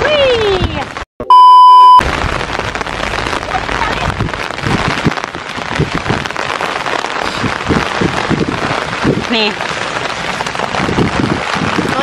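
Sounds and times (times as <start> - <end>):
rain falling: 0.0 - 1.0, 1.9 - 12.0.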